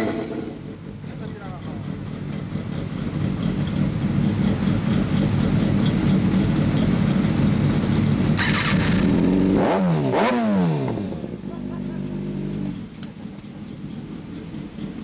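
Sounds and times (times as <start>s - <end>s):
motorcycle engine idling: 0.0s - 9.6s, 10.9s - 15.0s
engine throttle blips: 0.0s - 15.0s.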